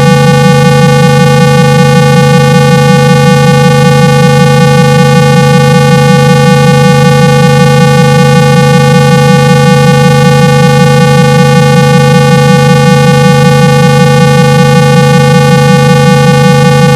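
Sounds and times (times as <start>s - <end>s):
steady low test tone: 0.0s - 16.9s.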